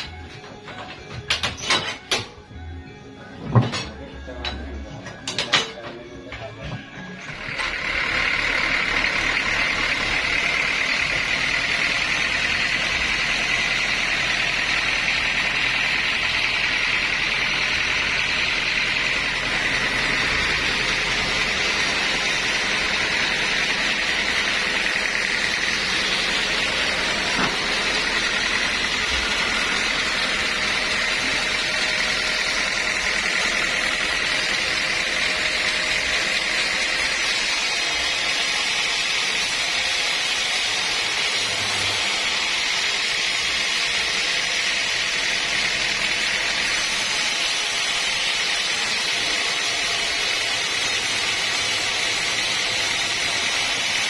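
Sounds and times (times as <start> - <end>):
sawmill saw whining: 0.0 - 54.0.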